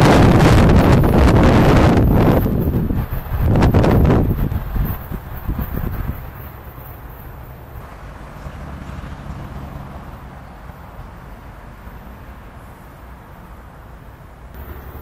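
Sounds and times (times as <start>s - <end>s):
distant diesel locomotive engine: 0.0s - 15.0s
outdoor background noise: 0.0s - 15.0s.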